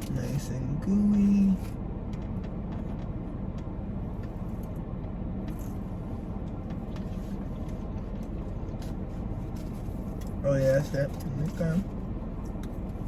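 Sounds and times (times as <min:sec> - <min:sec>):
car interior engine rumble: 0:00.0 - 0:13.0.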